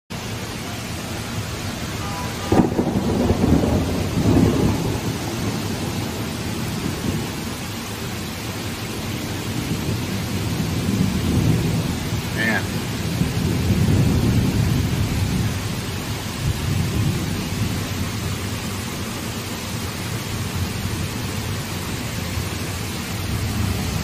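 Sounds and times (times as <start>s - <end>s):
heavy rain pouring: 0.1s - 24.0s
thunder clap rumbling: 0.8s - 24.0s.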